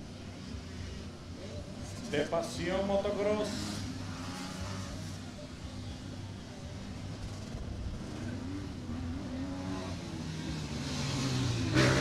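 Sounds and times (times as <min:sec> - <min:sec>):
dirt bike engine revving: 0:00.4 - 0:12.0.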